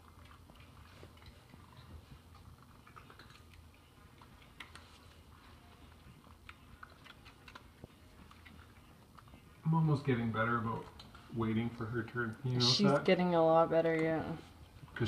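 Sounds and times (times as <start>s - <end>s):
cats eating dry treats: 0.0s - 13.1s.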